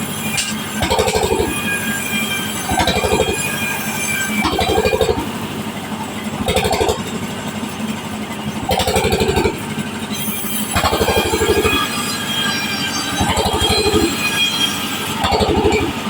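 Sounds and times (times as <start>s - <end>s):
saw blade cutting wood: 0.0s - 5.4s, 6.4s - 7.2s, 8.6s - 16.0s
bandsaw running: 0.0s - 16.0s.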